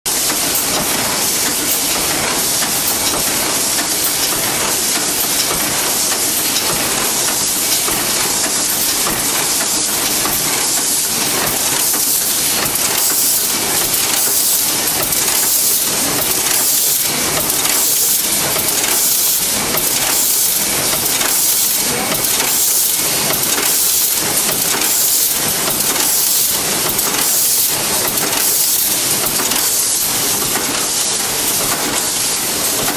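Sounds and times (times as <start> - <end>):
machine hissing and pulsing: 0.2 - 32.9.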